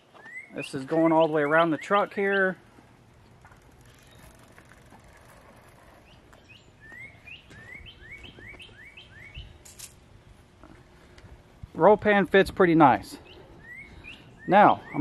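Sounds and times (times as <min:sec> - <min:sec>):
songbird chirping: 0:00.0 - 0:11.2, 0:12.9 - 0:15.0.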